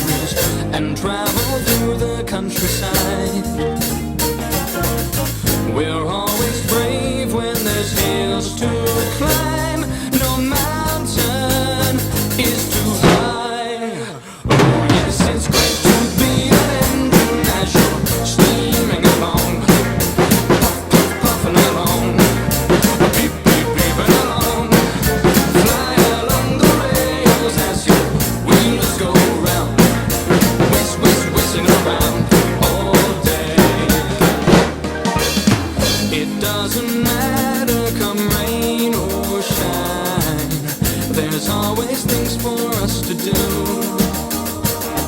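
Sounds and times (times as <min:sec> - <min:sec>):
drum kit playing: 0:00.0 - 0:13.5, 0:14.5 - 0:45.0
instrumental backing music: 0:00.0 - 0:13.5, 0:14.5 - 0:45.0.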